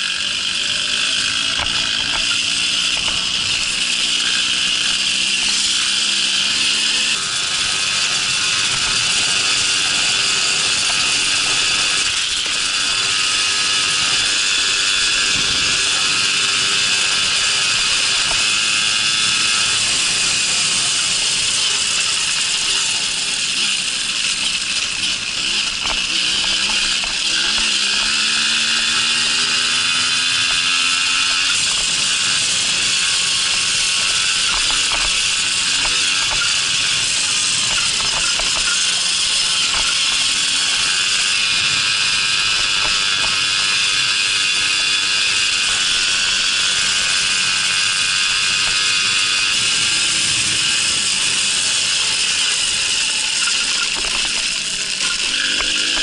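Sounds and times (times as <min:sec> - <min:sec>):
moped engine running: 0:00.0 - 0:56.0.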